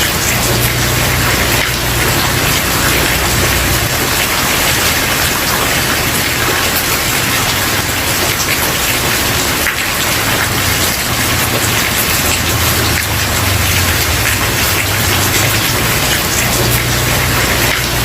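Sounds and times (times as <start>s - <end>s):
rain pattering on wooden porch: 0.0s - 18.0s.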